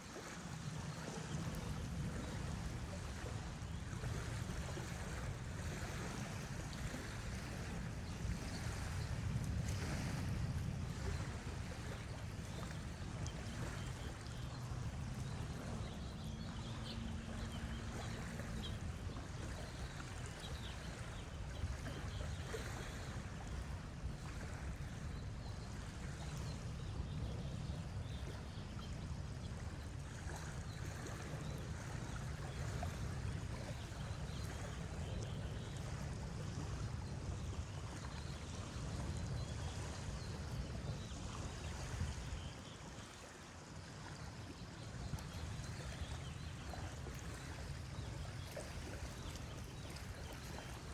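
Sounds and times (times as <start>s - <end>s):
water rushing: 0.0s - 27.2s, 29.5s - 50.9s.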